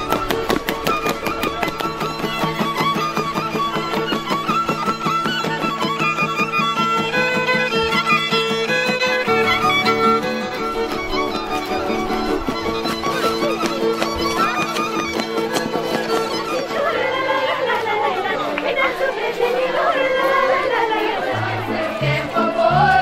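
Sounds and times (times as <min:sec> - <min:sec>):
fiddle folk dance melody: 0:00.0 - 0:23.0.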